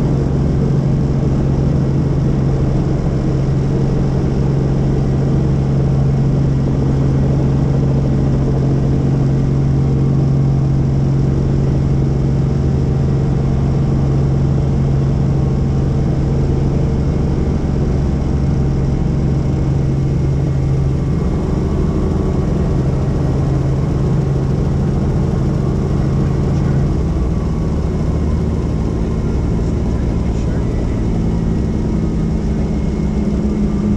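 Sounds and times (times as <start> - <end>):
helicopter engine and rotors: 0.0 - 33.9.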